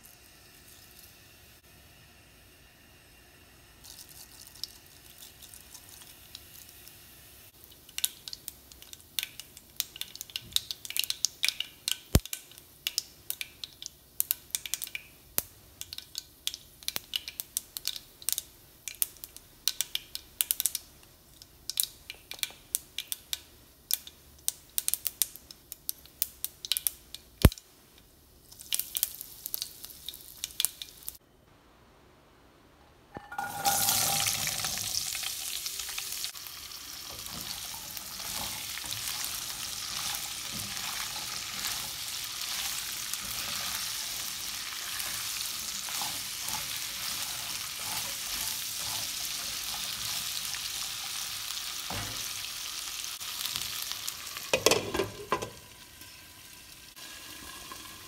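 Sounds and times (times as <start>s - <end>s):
seeds popping in hot oil: 3.8s - 31.2s, 33.1s - 56.2s.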